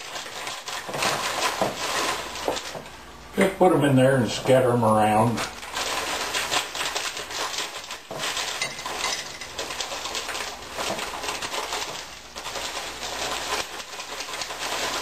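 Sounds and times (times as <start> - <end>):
frozen vegetables rattling in pan: 0.0 - 15.0.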